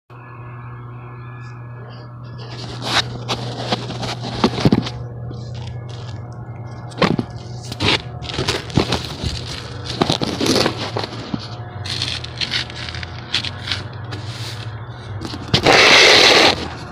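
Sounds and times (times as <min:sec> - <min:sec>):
steady low hum: 0:00.1 - 0:16.9
crunching on gritty roof surface: 0:02.4 - 0:16.9.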